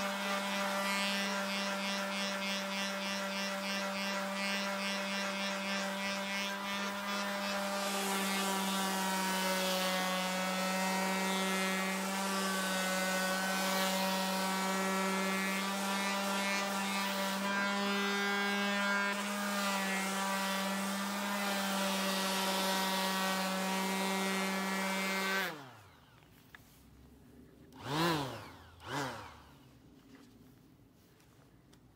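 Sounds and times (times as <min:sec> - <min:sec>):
sander winding down: 0:00.0 - 0:26.8, 0:27.6 - 0:30.3
electric sander humming: 0:00.0 - 0:30.4.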